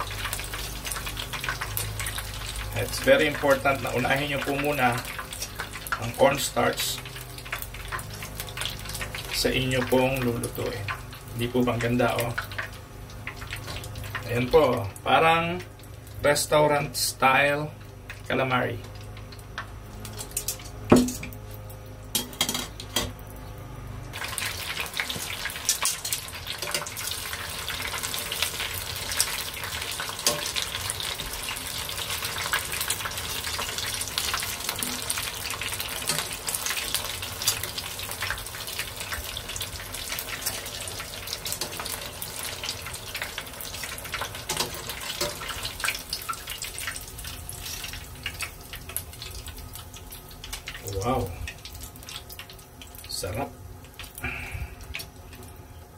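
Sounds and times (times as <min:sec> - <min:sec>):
deep-frying sizzle in hot oil: 0:00.0 - 0:55.9.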